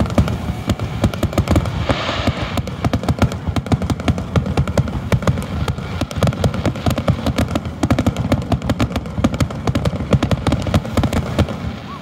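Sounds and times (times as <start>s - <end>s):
firework shells bursting: 0.0s - 11.8s.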